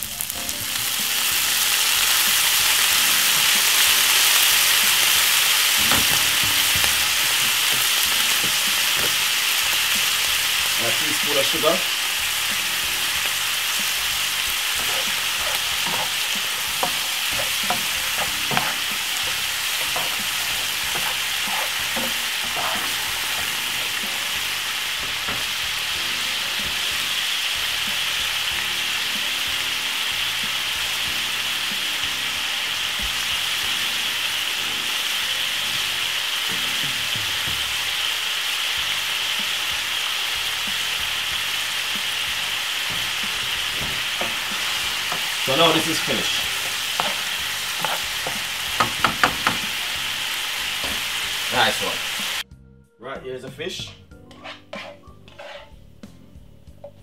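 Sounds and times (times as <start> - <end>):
vegetables sizzling in oil: 0.0 - 52.4, 54.4 - 55.7.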